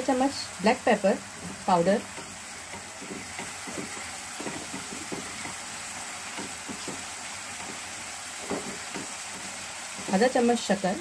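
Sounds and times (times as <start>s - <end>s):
chutney sizzling in a pan: 0.0s - 11.0s
spatula stirring: 1.2s - 10.8s.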